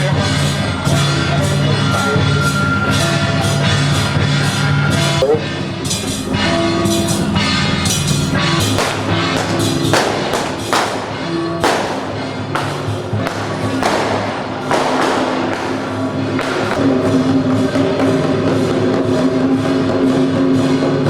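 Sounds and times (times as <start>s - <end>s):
sharp percussive hits: 0.0s - 19.3s
loud music with drum beat: 0.0s - 21.0s.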